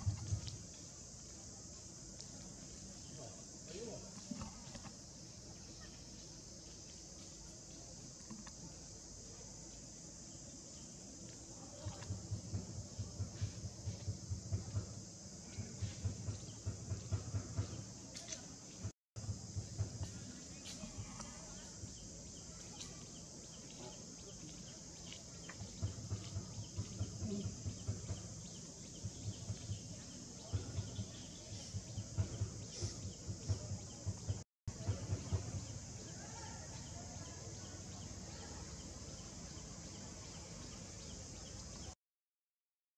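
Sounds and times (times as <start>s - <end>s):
high insect chorus: 0.0s - 42.0s.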